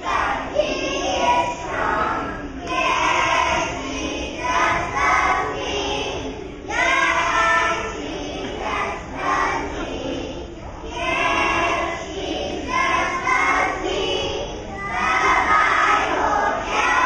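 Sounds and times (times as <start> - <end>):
young children singing: 0.0 - 17.0.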